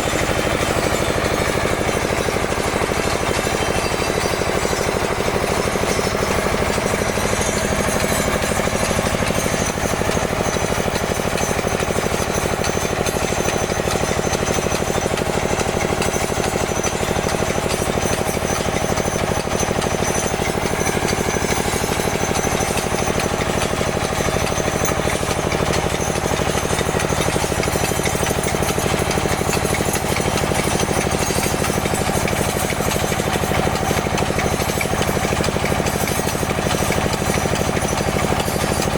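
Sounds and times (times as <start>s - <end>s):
soil-testing drill rattling: 0.0s - 38.9s.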